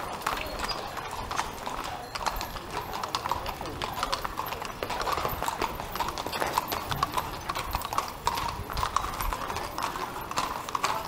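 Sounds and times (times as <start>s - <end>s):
horse hooves on asphalt: 0.0s - 11.0s.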